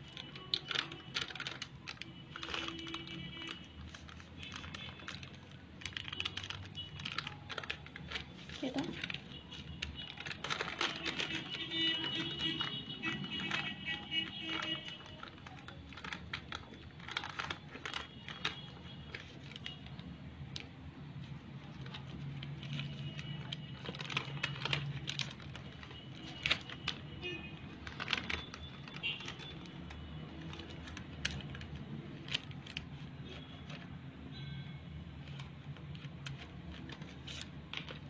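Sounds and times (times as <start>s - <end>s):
paper crackling and rustling: 0.0s - 34.4s, 35.0s - 38.0s.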